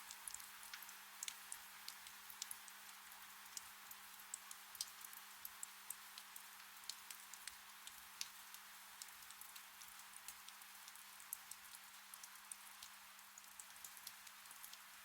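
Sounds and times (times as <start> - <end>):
raindrops ticking: 0.0 - 8.4, 9.0 - 15.0
gentle rain hissing: 0.0 - 15.0.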